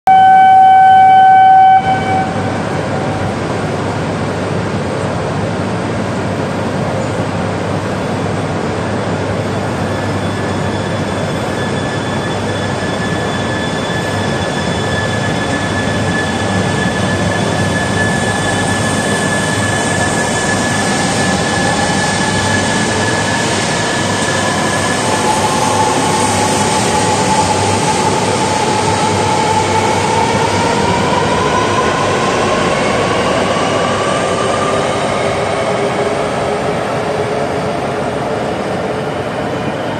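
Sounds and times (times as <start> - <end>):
train running noise: 0.1 - 39.9.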